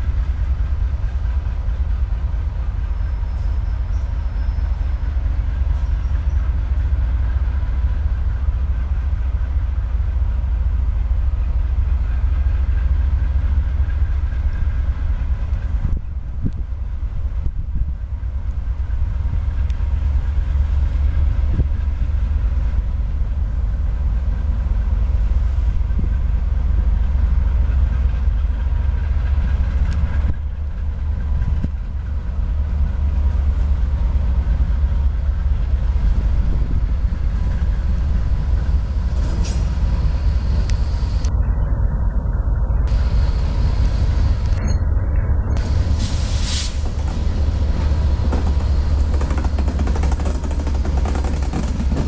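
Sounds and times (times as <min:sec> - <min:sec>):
diesel locomotive engine rumble: 0:00.0 - 0:52.0.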